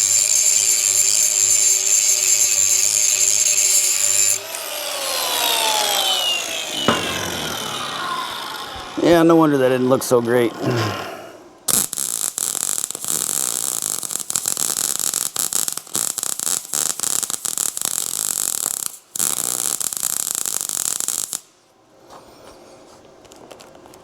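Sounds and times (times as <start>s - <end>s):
welder arc crackling and sizzling: 0.0s - 10.4s, 11.7s - 21.6s.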